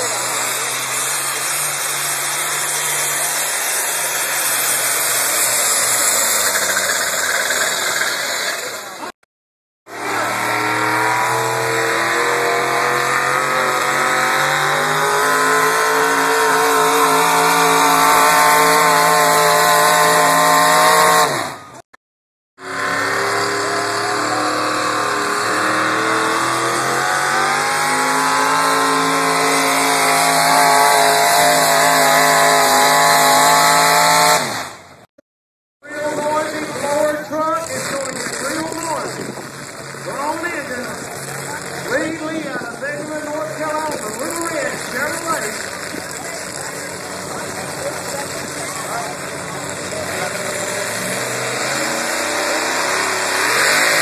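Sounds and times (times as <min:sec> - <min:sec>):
truck engines running under load: 0:00.0 - 0:09.2, 0:09.9 - 0:21.9, 0:22.6 - 0:35.1, 0:35.8 - 0:54.0.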